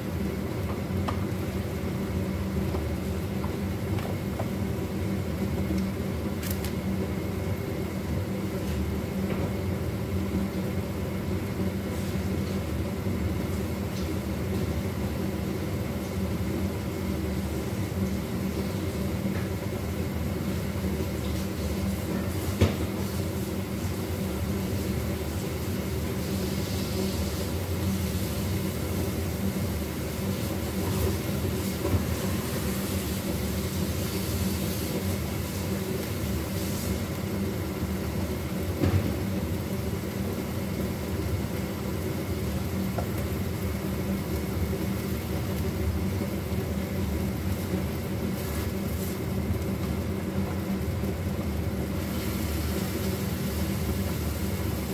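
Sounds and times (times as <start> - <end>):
extractor fan humming: 0.0 - 54.9.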